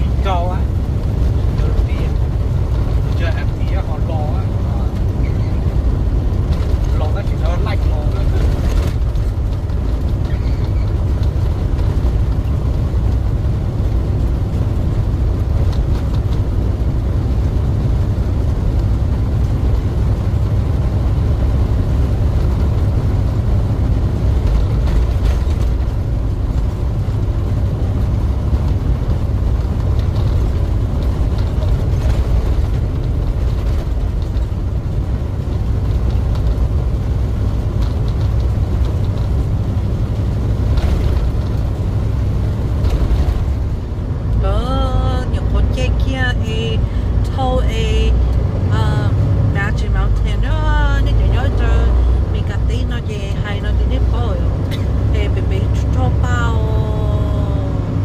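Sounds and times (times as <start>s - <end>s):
truck engine and road noise: 0.0s - 58.0s.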